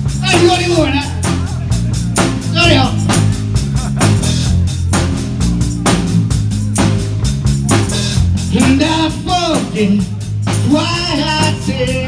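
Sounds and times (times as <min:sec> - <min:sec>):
bass guitar: 0:00.0 - 0:12.0
drum kit beat: 0:00.0 - 0:12.0.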